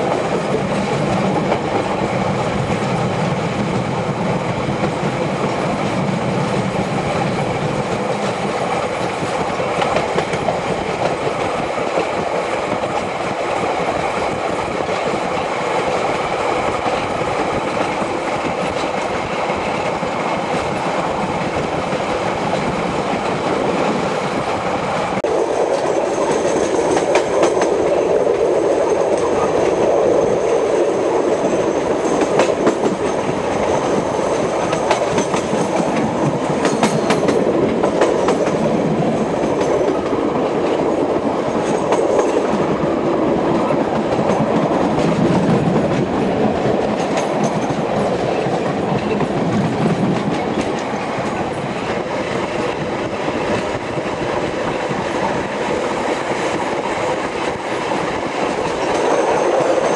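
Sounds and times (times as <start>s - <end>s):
rail joint clicks: 0.0s - 59.9s
train wheels rumbling on track: 0.0s - 59.9s.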